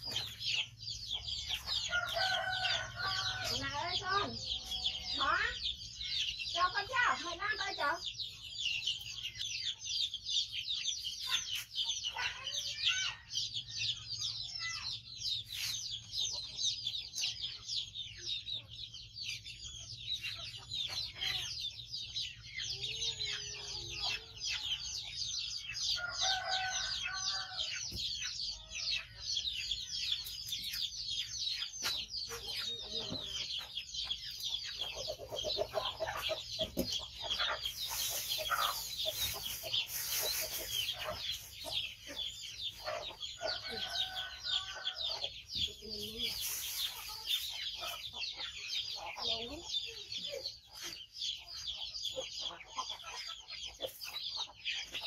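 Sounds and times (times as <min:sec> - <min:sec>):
chickens clucking: 0:00.0 - 0:55.0
chicks peeping: 0:00.0 - 0:55.0.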